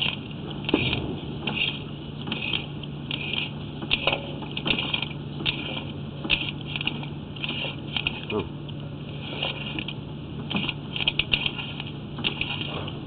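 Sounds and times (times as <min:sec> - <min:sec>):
cable scraping and clicking in pipe: 0:00.0 - 0:13.0
low electrical hum: 0:00.0 - 0:13.0.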